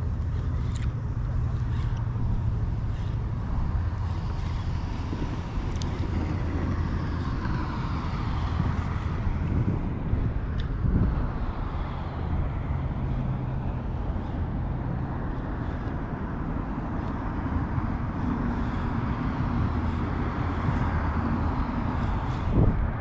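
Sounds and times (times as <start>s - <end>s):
engine humming steadily: 0.0s - 23.0s.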